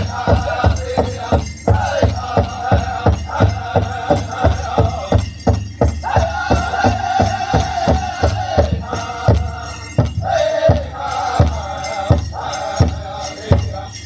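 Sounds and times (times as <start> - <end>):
large drum strokes: 0.0 - 13.8
men singing in chorus: 0.0 - 14.0.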